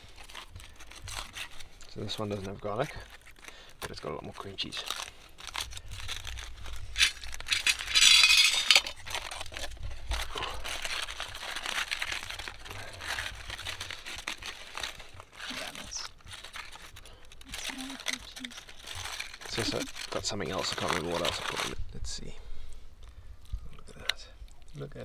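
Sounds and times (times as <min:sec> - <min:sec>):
packaging crinkling and rustling: 0:00.0 - 0:21.9.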